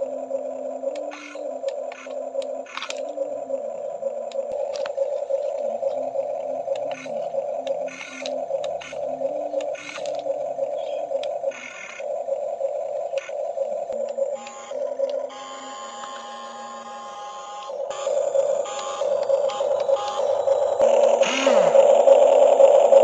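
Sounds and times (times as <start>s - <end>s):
toy excavator motors whirring: 0.0s - 23.0s.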